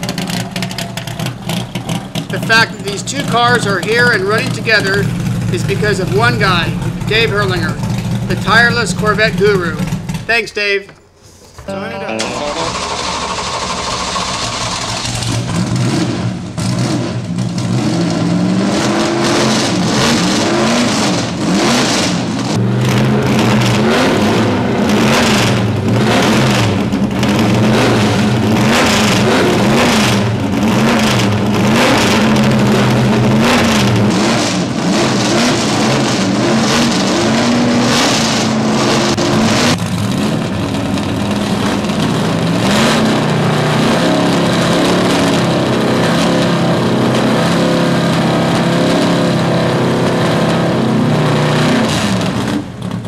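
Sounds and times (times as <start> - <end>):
race car engines revving: 0.0 - 11.5, 12.1 - 53.0.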